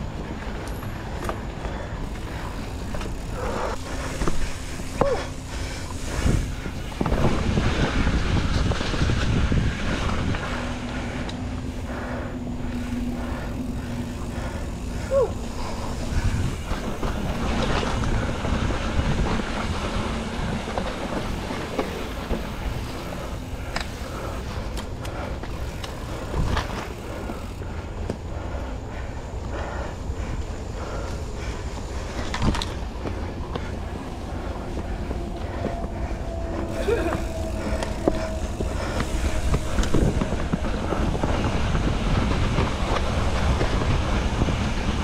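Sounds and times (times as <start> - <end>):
bike rattling clicks and knocks: 0.0 - 45.0
bike tyres rumbling on dirt: 0.0 - 45.0.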